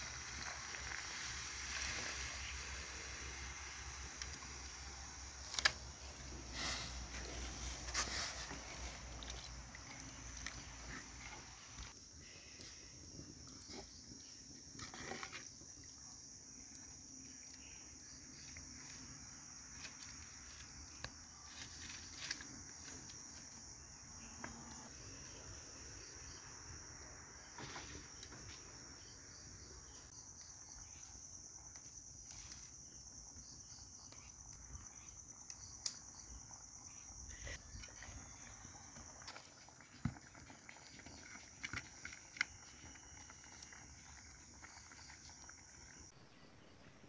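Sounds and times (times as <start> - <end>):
insect trill: 0.0 - 47.0.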